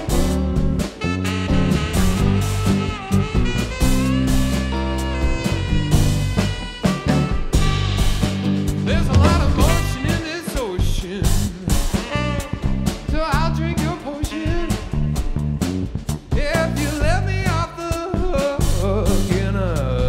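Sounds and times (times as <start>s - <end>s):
funk band playing: 0.0s - 20.0s.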